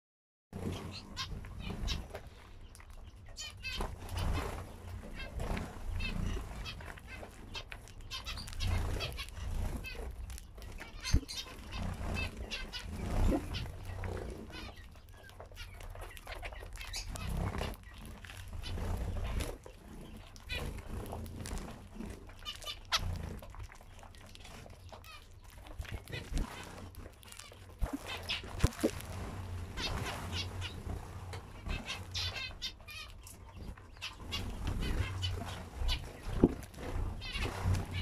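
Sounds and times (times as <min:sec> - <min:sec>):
finches chirping: 0:00.6 - 0:38.0.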